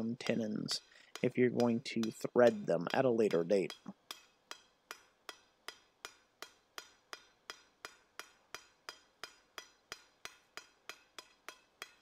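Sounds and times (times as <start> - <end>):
hammer striking metal on anvil: 0.0 - 12.0.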